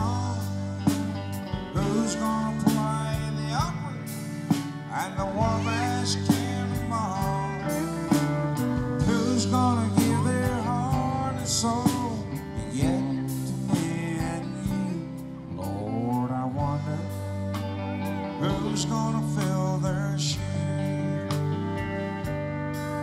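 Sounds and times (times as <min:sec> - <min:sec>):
country band playing: 0:00.0 - 0:23.0
electric lead guitar bent notes: 0:00.0 - 0:23.0.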